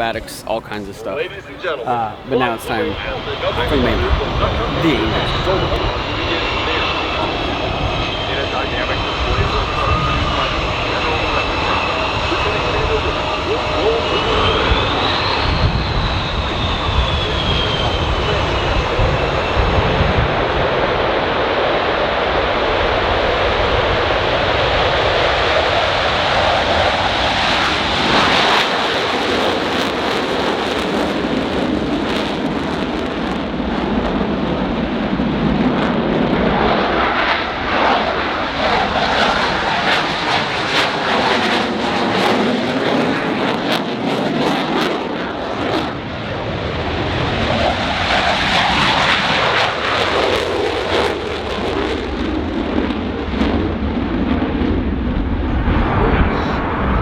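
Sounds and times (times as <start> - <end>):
jet aircraft flying past: 0.0 - 57.0.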